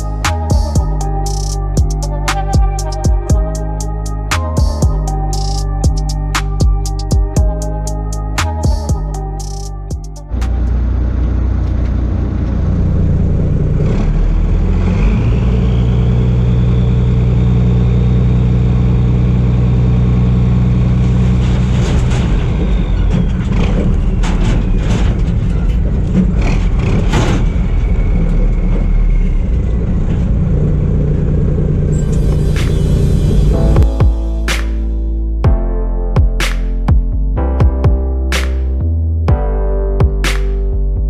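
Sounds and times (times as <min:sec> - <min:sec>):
diesel engine running: 0:00.0 - 0:35.1.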